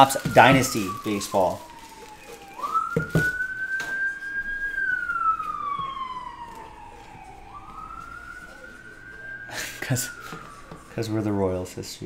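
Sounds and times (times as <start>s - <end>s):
plastic wrap crinkling: 0.0s - 11.0s
siren wailing: 0.0s - 11.8s.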